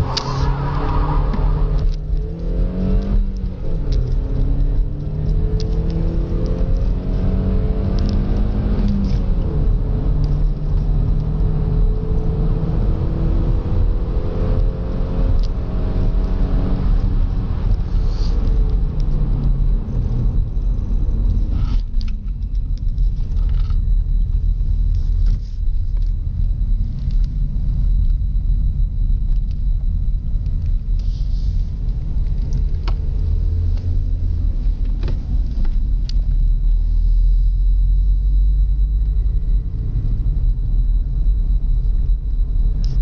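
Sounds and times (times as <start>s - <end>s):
car engine accelerating: 0.0s - 43.0s
road rumble: 0.0s - 43.0s.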